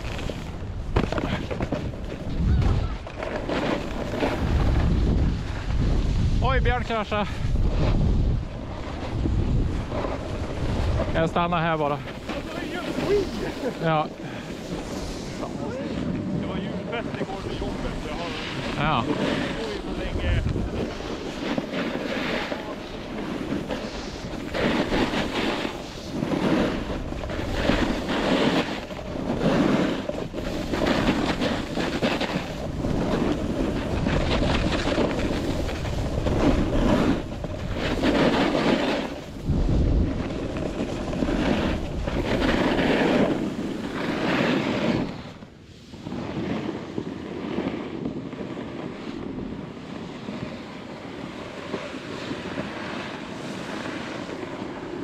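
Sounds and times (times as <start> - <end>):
wind buffeting microphone: 0.0 - 54.8
skis scraping across snow: 0.0 - 55.0.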